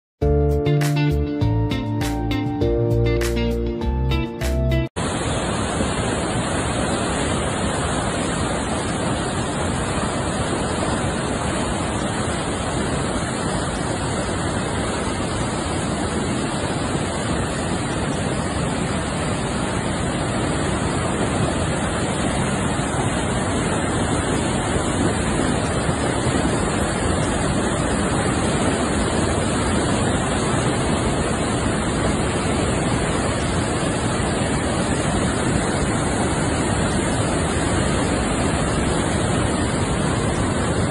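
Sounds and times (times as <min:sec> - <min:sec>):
river rushing in flood: 0:05.0 - 0:40.9.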